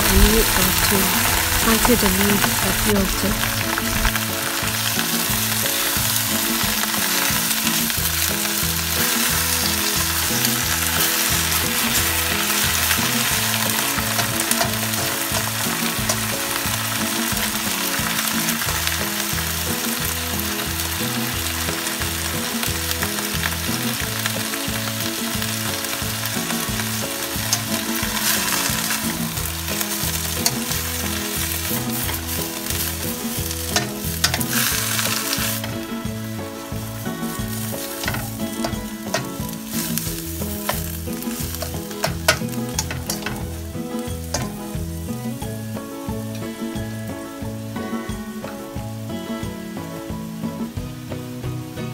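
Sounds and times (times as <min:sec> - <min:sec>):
spatula scraping a wok: 0:00.0 - 0:45.4
greens sizzling in a wok: 0:00.0 - 0:51.9.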